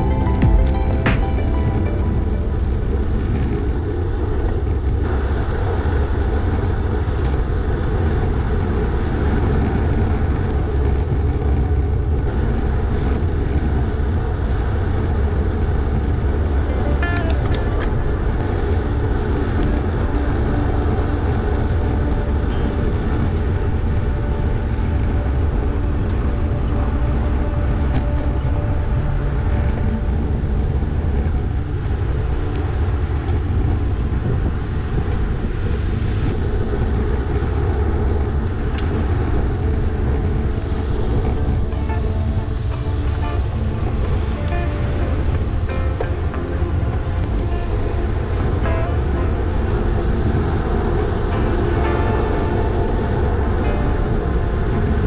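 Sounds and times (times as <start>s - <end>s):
road noise: 0.0s - 55.0s
wind buffeting microphone: 0.0s - 55.0s.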